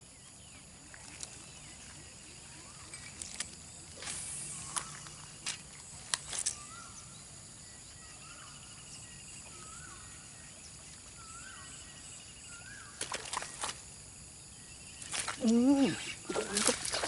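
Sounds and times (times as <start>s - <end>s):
faint insect trill: 0.0s - 17.0s.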